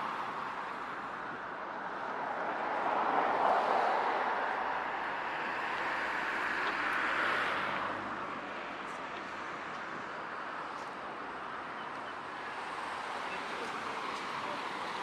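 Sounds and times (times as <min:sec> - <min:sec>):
traffic passing: 0:00.0 - 0:15.0.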